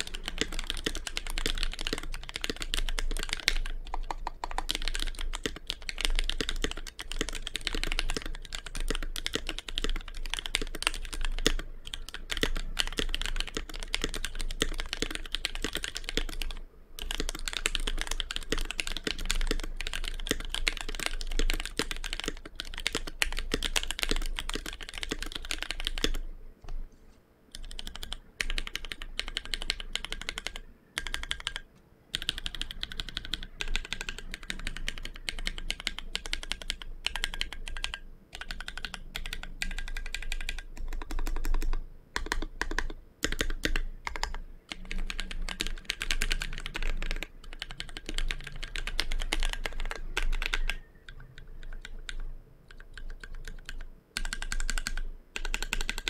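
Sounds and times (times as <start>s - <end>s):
mechanical keyboard typing: 0.0s - 26.8s, 27.5s - 56.0s.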